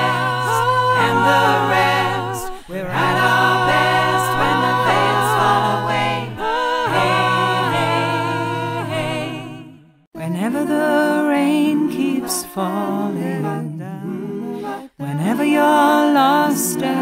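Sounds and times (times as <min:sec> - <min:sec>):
woman singing layered chords: 0:00.0 - 0:09.6, 0:10.2 - 0:14.2.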